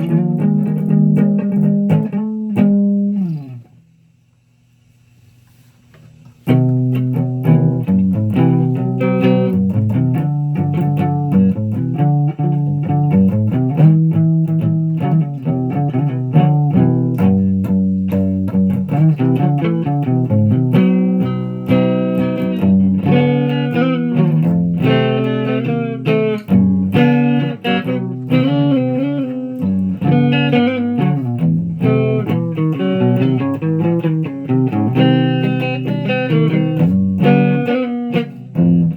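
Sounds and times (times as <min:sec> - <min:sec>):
electric guitar picked notes: 0:00.0 - 0:03.9, 0:06.4 - 0:38.9.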